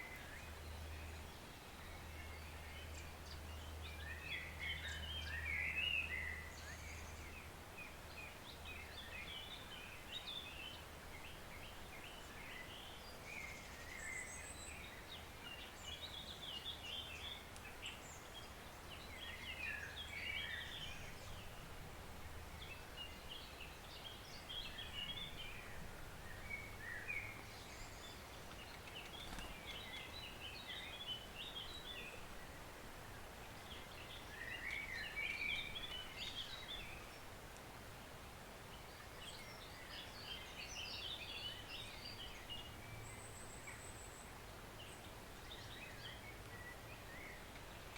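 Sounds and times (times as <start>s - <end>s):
forest stream hiss: 0.0s - 47.9s
songbirds twittering: 0.0s - 47.9s.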